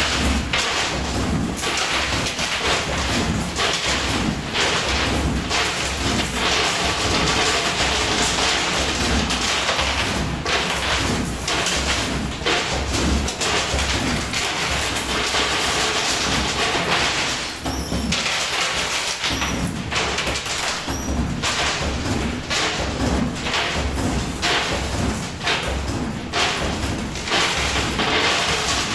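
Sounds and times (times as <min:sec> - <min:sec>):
coins clattering in arcade machine: 0:00.0 - 0:28.9.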